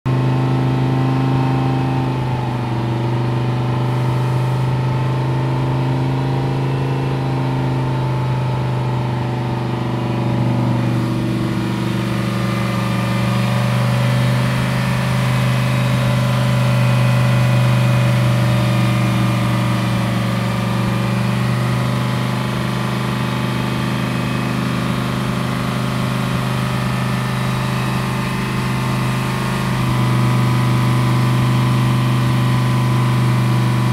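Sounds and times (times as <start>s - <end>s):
race car engine idling: 0.1s - 33.9s.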